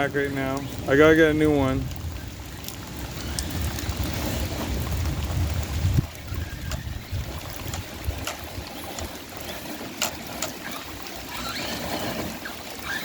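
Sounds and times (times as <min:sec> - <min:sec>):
sharp drip ticks: 0:00.0 - 0:11.6
rain falling: 0:00.0 - 0:13.0.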